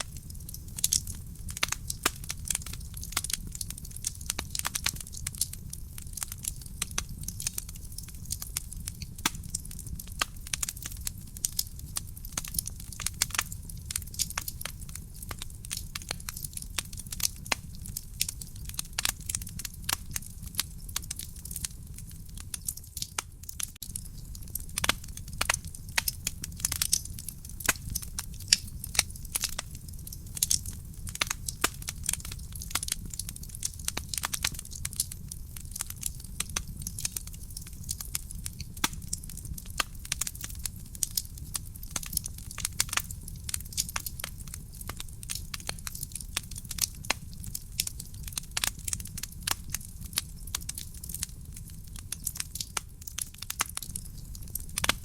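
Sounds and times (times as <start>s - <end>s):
burning logs crackling and popping: 0.0s - 55.0s
fire flames rumbling: 0.0s - 55.0s.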